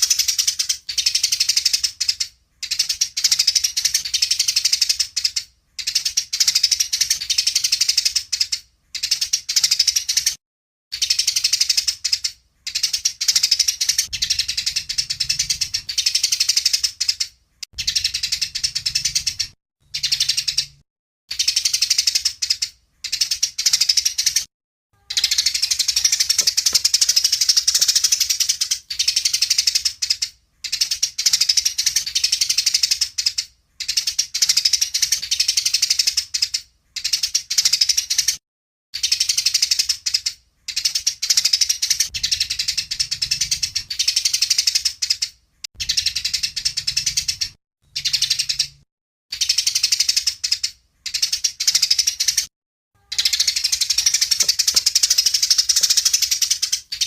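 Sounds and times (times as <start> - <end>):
songbird chattering song: 0.0 - 38.4, 39.0 - 57.0.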